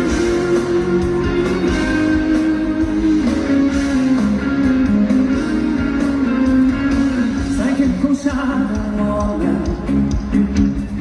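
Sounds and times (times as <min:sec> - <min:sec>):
guitar: 0:00.0 - 0:11.0
live band playing: 0:00.0 - 0:11.0.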